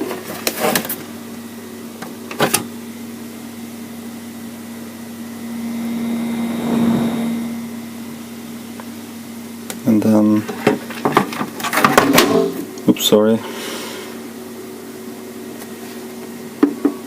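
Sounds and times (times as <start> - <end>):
cooling fan humming: 0.0 - 17.0.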